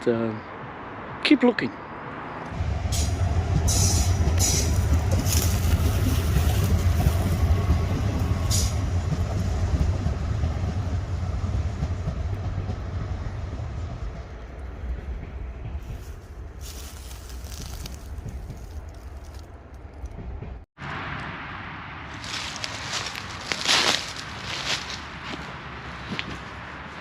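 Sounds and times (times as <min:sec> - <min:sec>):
train rumbling past: 0:01.9 - 0:27.0.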